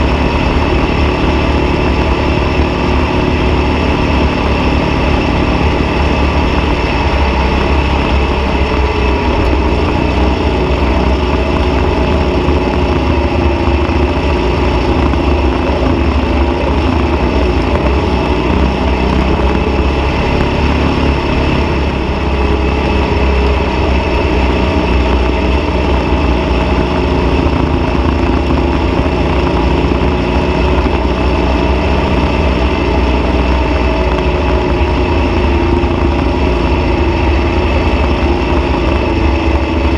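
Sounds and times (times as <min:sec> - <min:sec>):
dune buggy engine running: 0:00.0 - 0:39.9.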